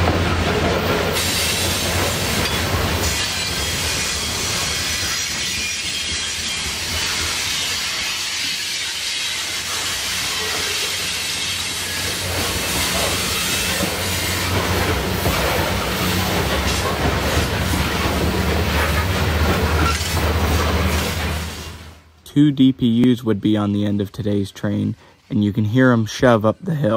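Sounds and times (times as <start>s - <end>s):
train wheels clattering on rails: 0.0s - 21.8s
diesel locomotive hum: 0.0s - 23.2s.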